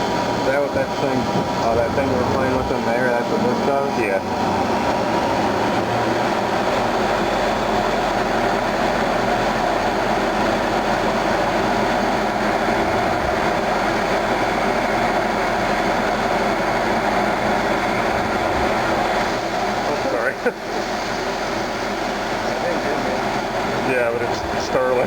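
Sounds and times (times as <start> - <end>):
lathe machining metal: 0.0 - 25.0.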